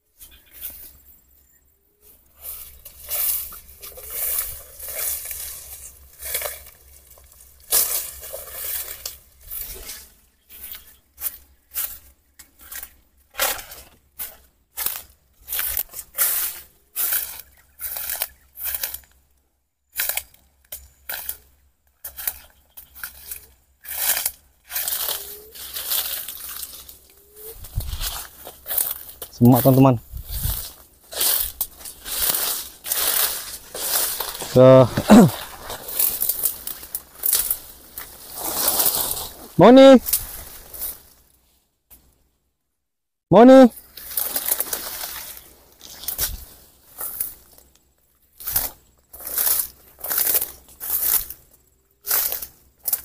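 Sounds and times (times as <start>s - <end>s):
footsteps crunching dry leaves: 2.0s - 19.2s, 19.9s - 41.6s, 43.7s - 53.0s.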